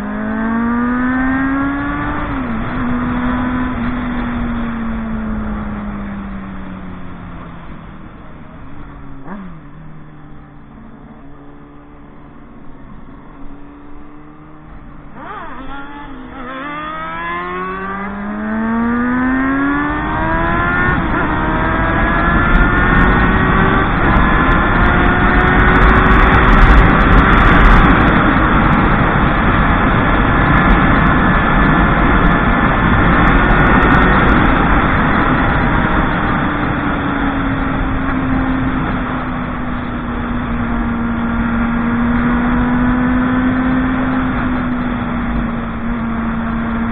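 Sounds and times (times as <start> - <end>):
motorcycle engine accelerating: 0.0 - 46.9
wind rushing over microphone: 0.0 - 46.9.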